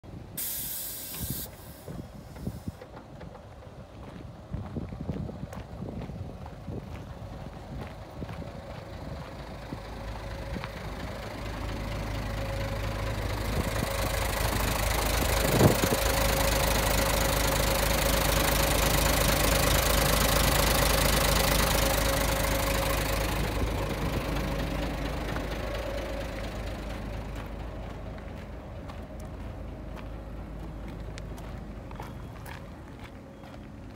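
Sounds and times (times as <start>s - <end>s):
diesel bus engine idling: 0.1s - 33.9s.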